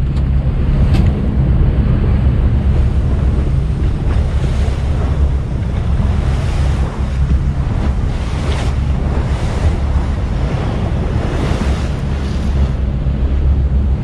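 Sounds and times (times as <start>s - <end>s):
heavy low rumble: 0.0s - 14.0s
water rushing and splashing: 0.0s - 14.0s
wind buffeting microphone: 0.0s - 14.0s.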